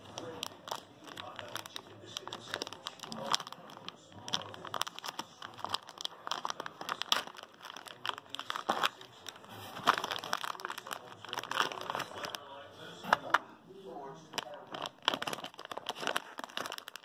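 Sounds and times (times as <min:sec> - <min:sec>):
plastic bag crinkling: 0:00.0 - 0:13.4, 0:14.3 - 0:17.0.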